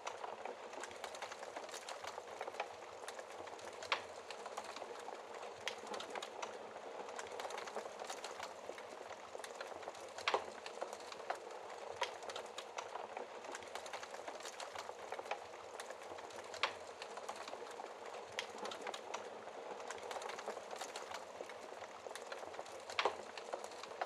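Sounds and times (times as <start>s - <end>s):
soft rain: 0.0s - 24.0s
wood fire crackling and popping: 0.0s - 24.0s.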